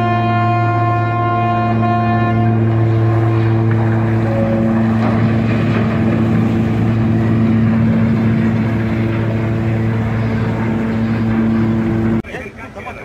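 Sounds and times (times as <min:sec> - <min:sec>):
ship's horn long low blast: 0:00.0 - 0:12.2.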